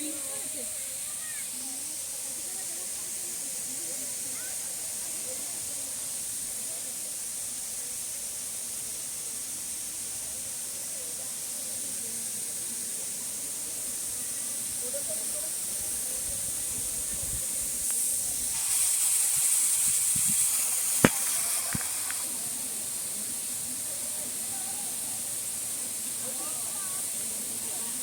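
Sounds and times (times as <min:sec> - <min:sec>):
high-pitched hiss: 0:00.0 - 0:28.0.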